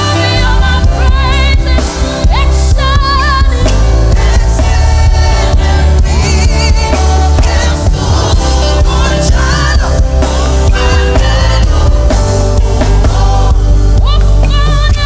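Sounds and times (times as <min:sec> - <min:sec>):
band with bass and drums: 0:00.0 - 0:15.0
person singing with vibrato: 0:00.0 - 0:15.0.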